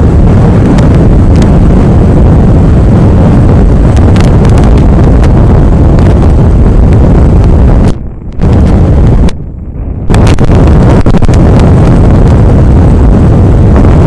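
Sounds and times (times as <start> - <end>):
wind blasting microphone: 0.0 - 14.0.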